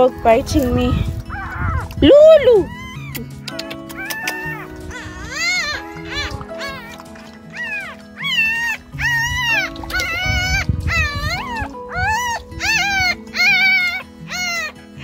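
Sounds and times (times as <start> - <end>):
background music with held chords: 0.0 - 15.0
puppies squealing: 0.8 - 15.0.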